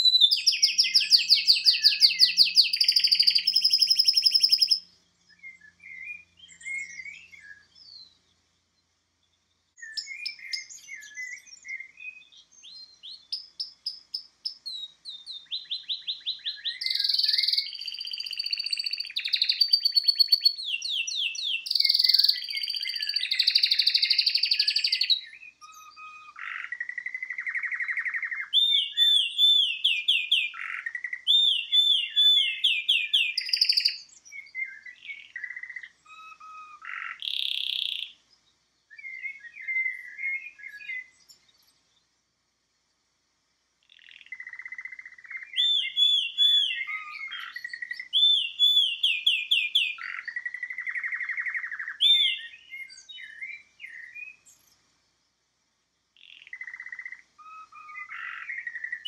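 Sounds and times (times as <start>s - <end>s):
canary singing trills: 0.0s - 8.3s, 9.8s - 42.0s, 43.8s - 54.8s, 56.2s - 59.0s.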